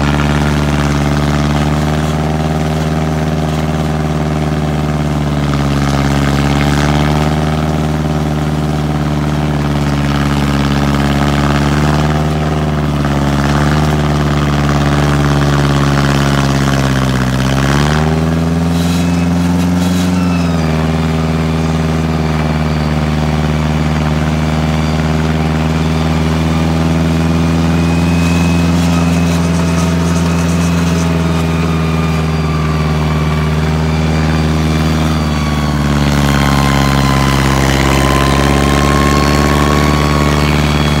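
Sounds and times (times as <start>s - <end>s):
loader engine running: 0.0s - 41.0s.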